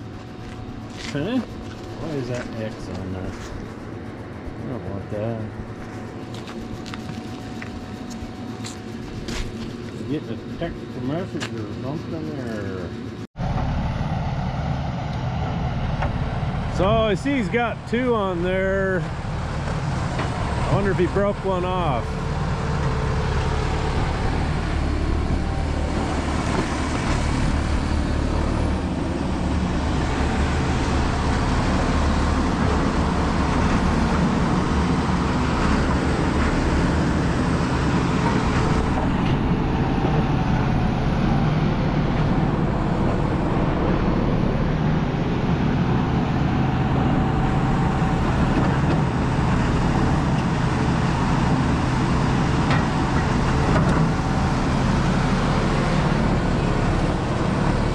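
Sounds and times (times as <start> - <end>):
heavy equipment engine running: 0.0 - 57.9.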